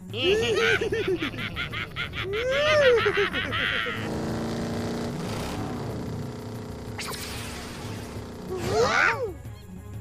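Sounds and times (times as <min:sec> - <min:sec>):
cartoon van engine hum: 0:00.0 - 0:09.7.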